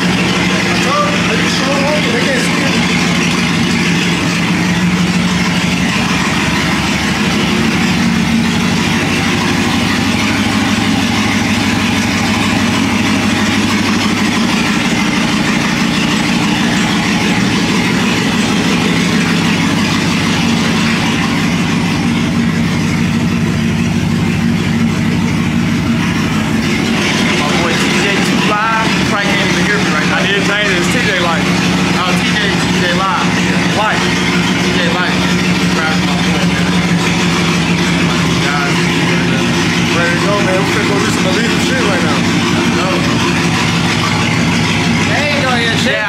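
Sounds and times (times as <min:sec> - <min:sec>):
vehicle engine droning: 0:00.0 - 0:46.0.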